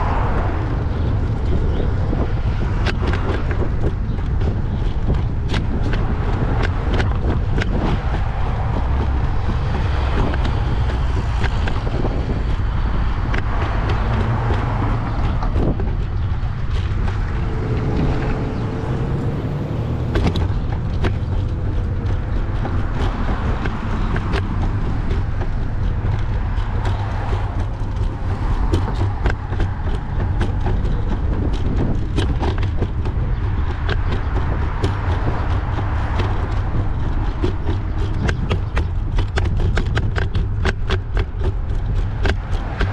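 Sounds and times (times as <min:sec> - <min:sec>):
bike clicks and rattles: 0:00.0 - 0:42.9
bike rolling on pavement: 0:00.0 - 0:42.9
wind buffeting microphone: 0:00.0 - 0:42.9.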